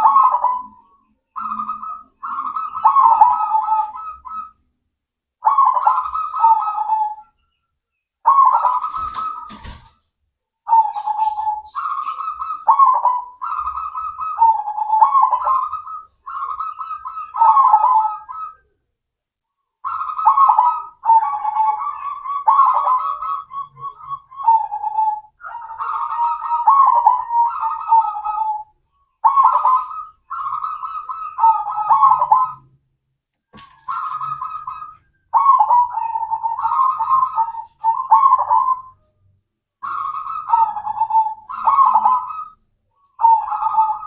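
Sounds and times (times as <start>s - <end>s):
dove cooing: 0.0s - 4.6s, 5.4s - 7.4s, 8.2s - 10.0s, 10.7s - 18.8s, 19.8s - 32.8s, 33.5s - 39.2s, 39.8s - 44.0s.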